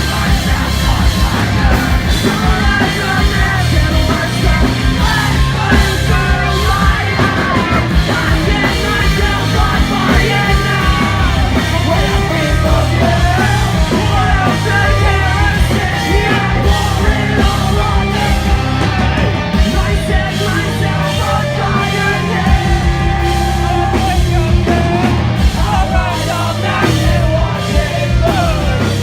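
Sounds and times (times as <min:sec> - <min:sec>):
person singing and yelling: 0:00.0 - 0:29.0
punk rock band playing: 0:00.0 - 0:29.0.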